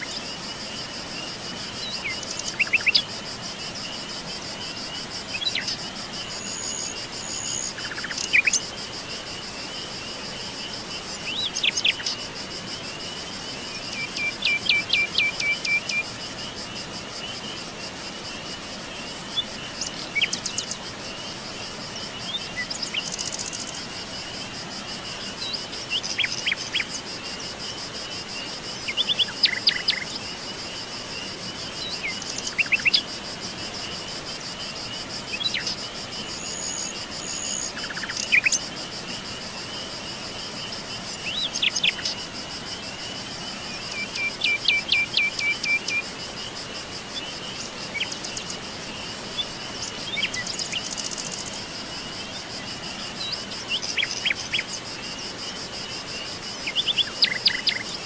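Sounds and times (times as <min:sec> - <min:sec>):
background hiss: 0:00.0 - 0:58.0
insect trill: 0:00.0 - 0:58.0.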